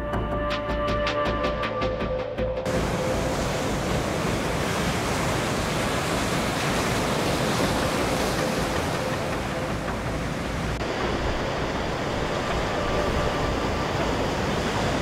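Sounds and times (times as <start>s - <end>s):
waves breaking on rocky shore: 2.7s - 15.0s.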